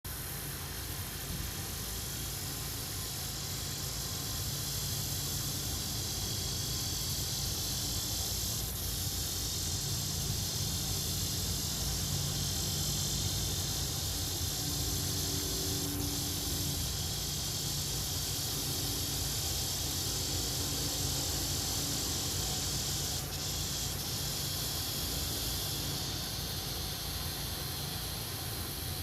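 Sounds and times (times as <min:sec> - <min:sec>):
high-pitched insect hiss: 0:00.1 - 0:29.0
faint hum: 0:00.2 - 0:29.0.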